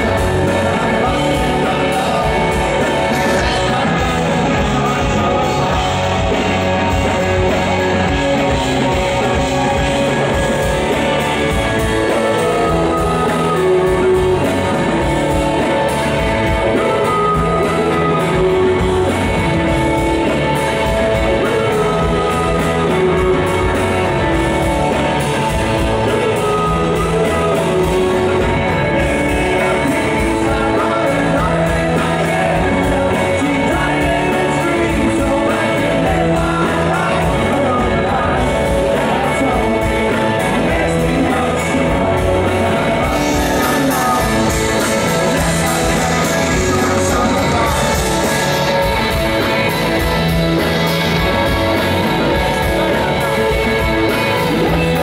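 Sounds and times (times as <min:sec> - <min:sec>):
live rock band playing: 0:00.0 - 0:55.0
person singing lead vocal: 0:00.0 - 0:55.0.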